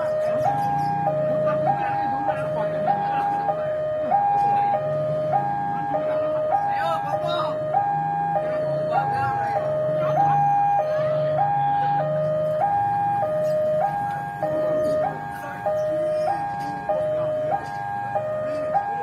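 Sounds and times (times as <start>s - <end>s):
two-tone warning siren: 0.0s - 19.0s.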